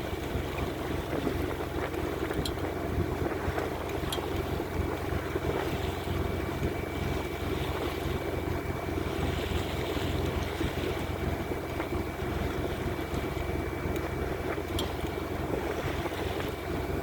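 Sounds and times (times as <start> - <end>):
constant low hum: 0.0 - 17.0
water rushing along hull: 0.0 - 17.0
wind buffeting microphone: 0.0 - 17.0.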